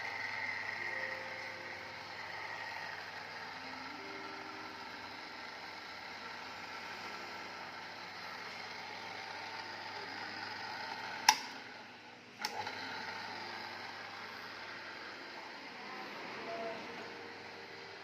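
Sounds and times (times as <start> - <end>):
cutting machine humming: 0.0 - 18.0.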